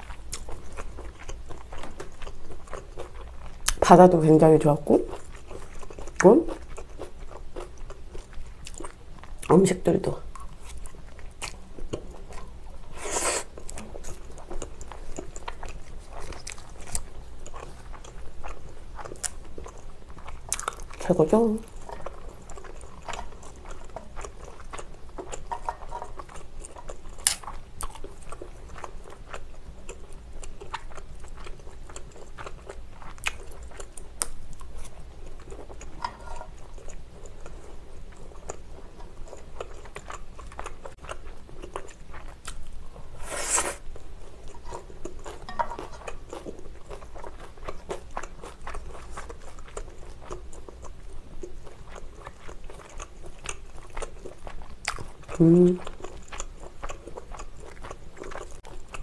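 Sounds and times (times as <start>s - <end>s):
person chewing noodles: 0.0s - 3.8s, 5.1s - 9.5s, 10.3s - 21.0s, 21.6s - 59.0s.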